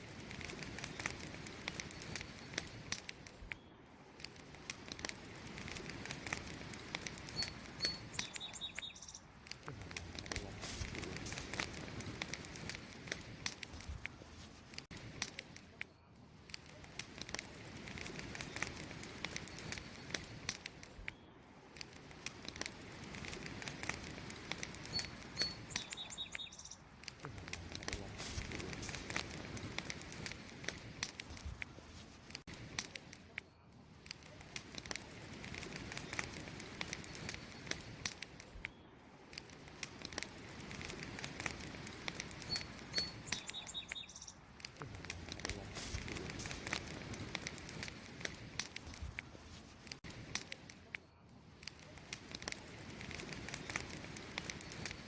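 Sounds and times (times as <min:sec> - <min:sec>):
campfire crackling and snapping: 0:00.0 - 0:55.0.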